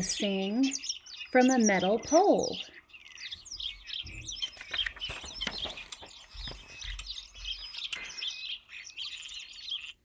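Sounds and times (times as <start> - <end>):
starling singing: 0.0 - 10.0.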